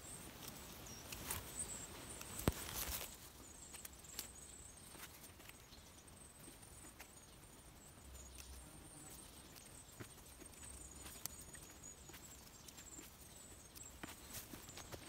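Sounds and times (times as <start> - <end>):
hands rustling mushrooms and leaves: 0.0 - 15.0.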